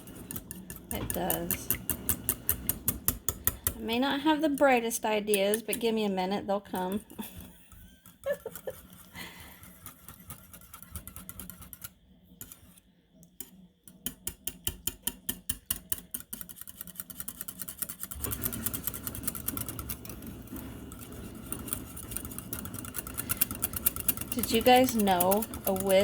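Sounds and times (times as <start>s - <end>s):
whisk clicking against bowl: 0.0s - 6.0s, 6.7s - 12.7s, 13.3s - 26.0s.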